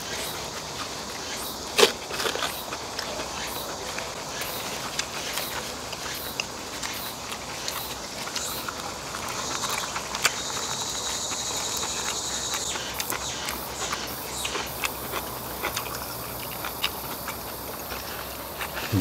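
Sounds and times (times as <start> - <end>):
crunchy wet chewing: 0.0 - 19.0.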